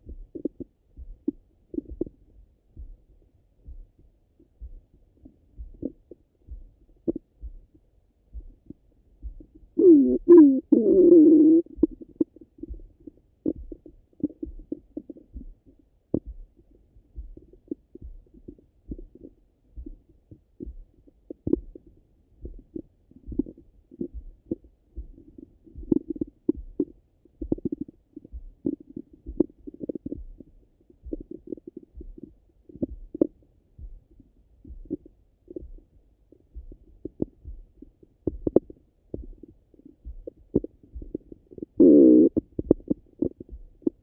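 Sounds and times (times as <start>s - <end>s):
stomach gurgles and rumbles: 0.0s - 7.8s, 8.4s - 44.0s
low soft pulse: 0.0s - 44.0s.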